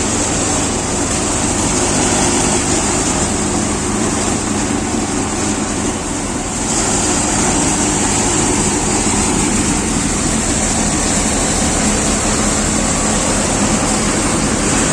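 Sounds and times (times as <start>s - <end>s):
tractor engine droning: 0.0s - 14.9s.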